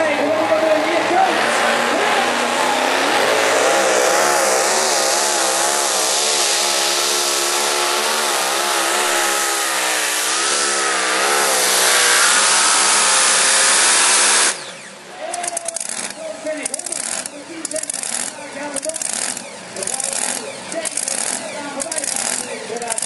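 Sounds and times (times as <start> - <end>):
engine at full throttle: 0.0 - 23.0.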